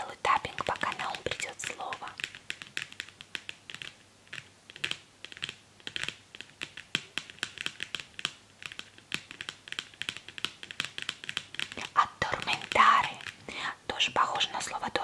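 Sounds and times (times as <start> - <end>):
fingernails tapping on chalkboard: 0.5 - 13.4.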